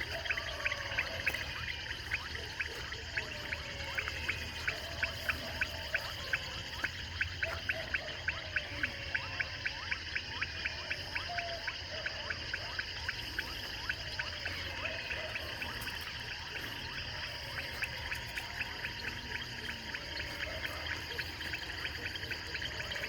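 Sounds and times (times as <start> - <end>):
insect buzz: 0.0 - 23.0
short pulsed animal calls: 0.0 - 23.0.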